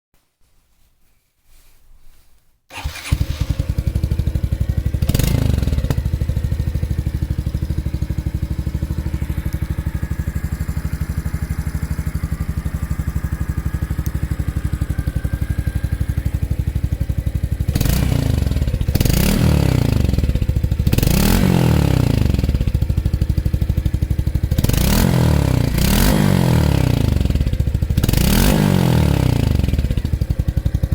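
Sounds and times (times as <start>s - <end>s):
motorcycle engine idling: 2.7s - 30.9s
motorcycle engine revving: 2.7s - 30.9s.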